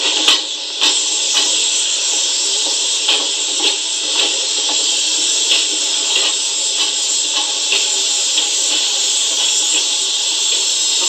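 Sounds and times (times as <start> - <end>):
hiss of escaping steam: 0.0 - 11.0
vinyl record clicks: 0.0 - 11.0.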